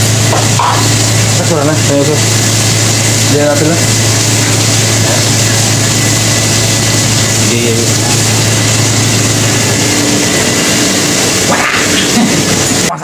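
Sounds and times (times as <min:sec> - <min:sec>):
gas burner roar: 0:00.0 - 0:13.0
low hum: 0:00.0 - 0:13.0
oil sizzling: 0:00.0 - 0:13.0.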